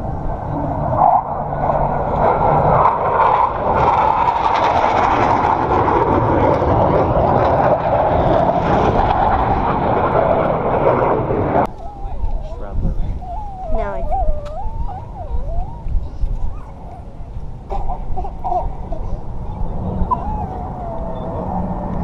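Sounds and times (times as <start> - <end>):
jet engines roaring overhead: 0.0 - 22.0.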